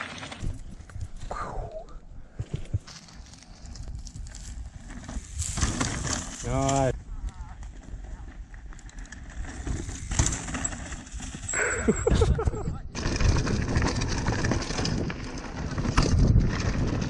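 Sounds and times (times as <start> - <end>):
bike tyre rumble on dirt: 0.0 - 1.5, 2.4 - 17.0
wind noise: 0.0 - 17.0.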